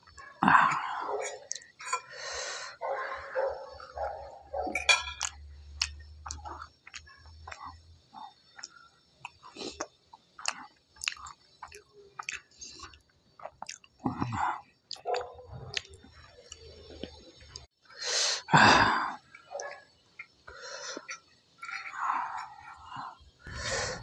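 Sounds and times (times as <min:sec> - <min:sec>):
person chewing food: 0:00.0 - 0:17.7, 0:19.2 - 0:24.0.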